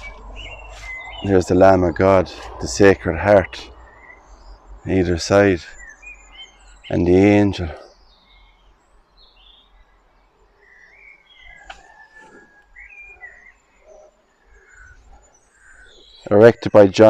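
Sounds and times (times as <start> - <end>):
birds chirping and whistling: 0.0 - 17.0.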